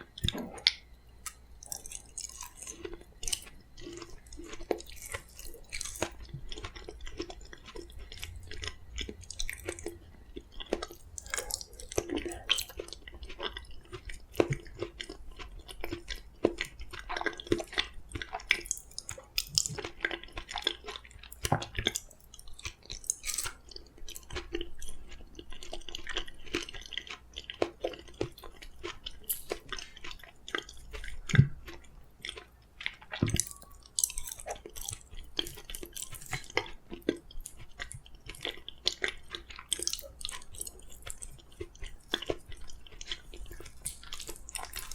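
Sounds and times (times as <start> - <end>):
wet chewing mouth clicks: 0.0 - 44.9.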